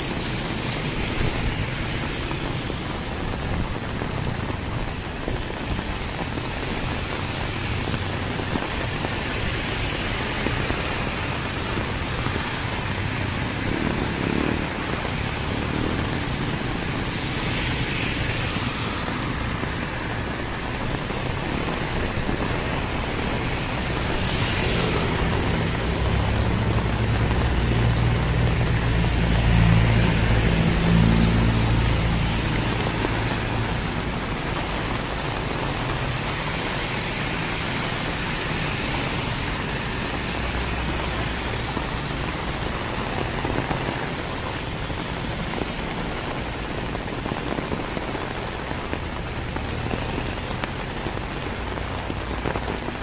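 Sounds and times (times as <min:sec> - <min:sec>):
heavy rain: 0:00.0 - 0:53.0
vehicles passing on wet road: 0:00.0 - 0:53.0.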